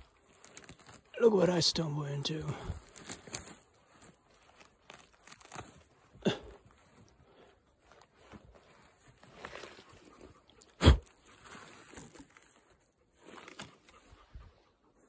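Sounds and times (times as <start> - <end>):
hand digging and scraping soil: 0.0 - 14.4
pine needles rustling: 0.0 - 14.4.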